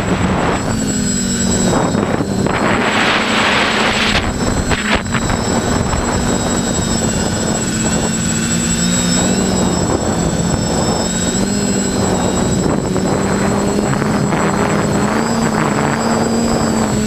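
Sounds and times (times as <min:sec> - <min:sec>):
rushing air: 0:00.0 - 0:15.7
drone motors humming and whining: 0:00.0 - 0:17.0.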